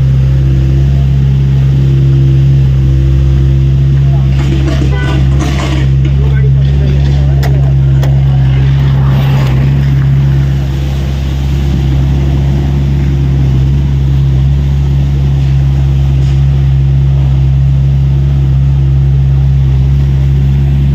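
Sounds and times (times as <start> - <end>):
excavator diesel engine running: 0.0 - 20.9
noisy rush: 0.0 - 20.9.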